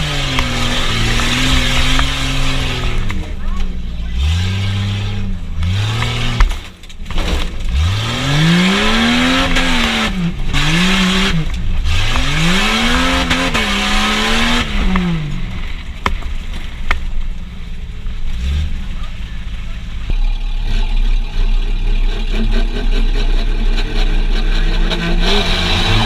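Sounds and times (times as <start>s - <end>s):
truck engine revving hard: 0.0s - 16.4s, 18.0s - 26.0s.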